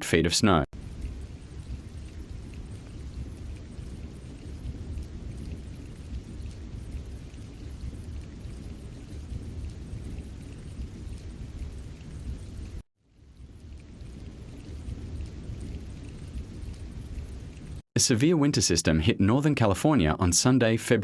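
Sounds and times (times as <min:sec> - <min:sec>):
wind buffeting microphone: 0:00.8 - 0:17.8.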